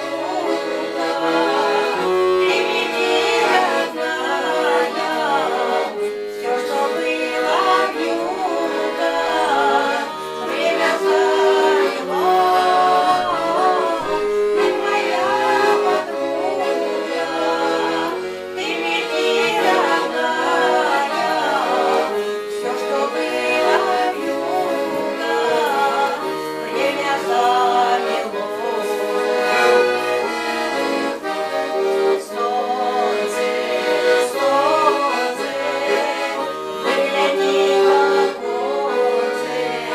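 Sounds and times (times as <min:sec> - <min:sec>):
accordion playing folk tune: 0:00.0 - 0:39.9.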